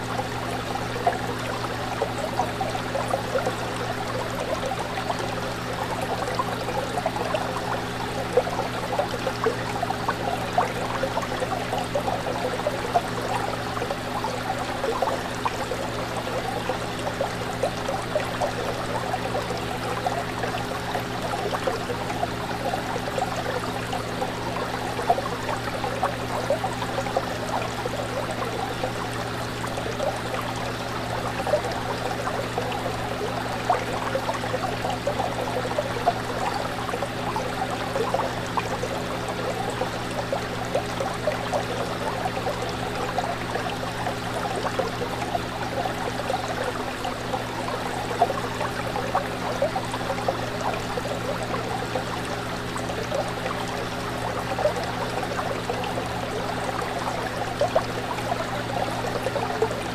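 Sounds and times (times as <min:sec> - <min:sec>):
fish tank water bubbling: 0:00.0 - 0:59.9
water splashes: 0:00.0 - 0:59.9.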